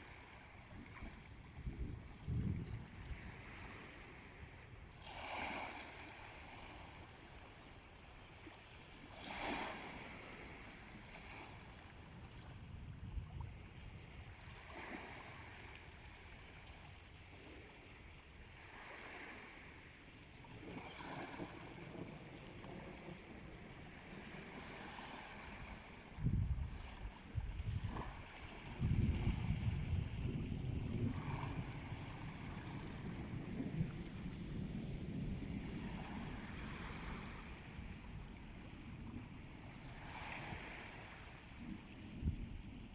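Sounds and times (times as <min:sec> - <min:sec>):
wind gusts on microphone: 0:00.0 - 0:08.1, 0:08.9 - 0:42.9
small waves washing on shore: 0:00.0 - 0:42.9.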